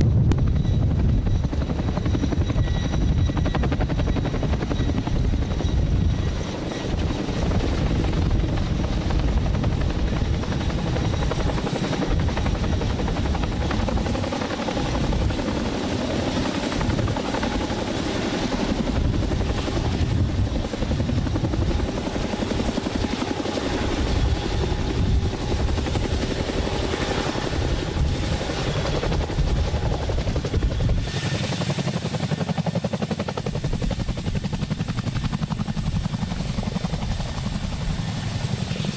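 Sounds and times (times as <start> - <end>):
turbine whine: 0.0 - 32.0
helicopter rotor chop: 0.0 - 38.9.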